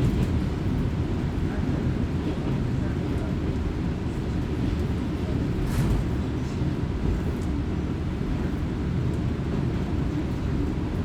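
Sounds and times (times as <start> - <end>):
railcar engine and wheels rumbling: 0.0 - 11.0.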